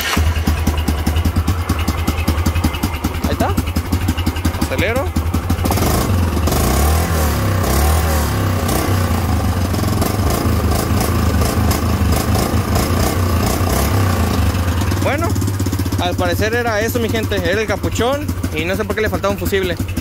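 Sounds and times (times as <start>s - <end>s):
atv engine revving and running: 0.0s - 20.0s.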